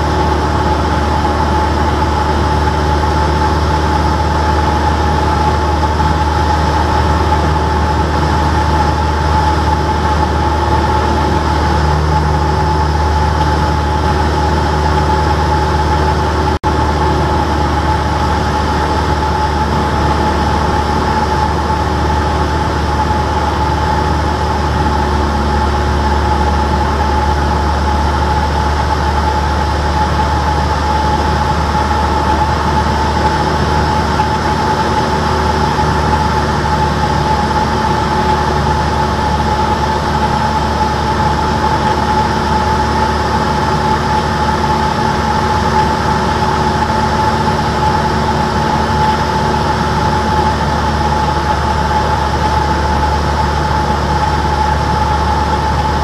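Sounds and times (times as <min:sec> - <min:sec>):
airplane engine drone in cabin: 0:00.0 - 0:56.0
high propeller whine: 0:00.0 - 0:56.0.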